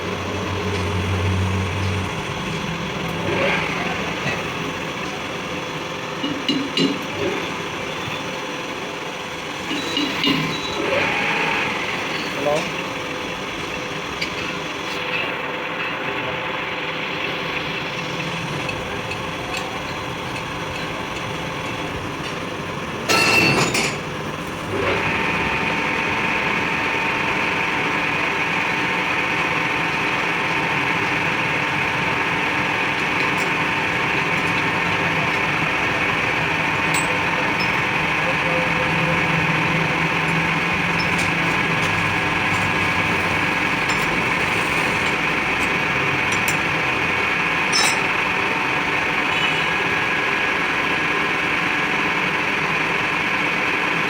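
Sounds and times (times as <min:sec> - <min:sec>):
workshop machine running: 0:00.0 - 0:54.0.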